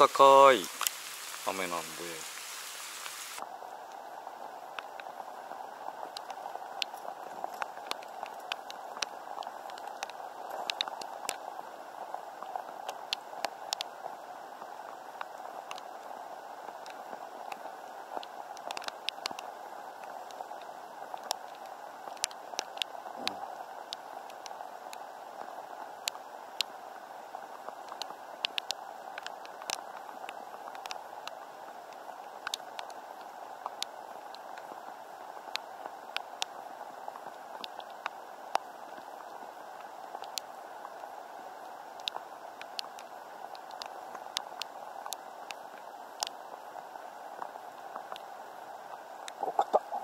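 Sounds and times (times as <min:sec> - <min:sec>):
rain falling on water: 0:00.0 - 0:50.0.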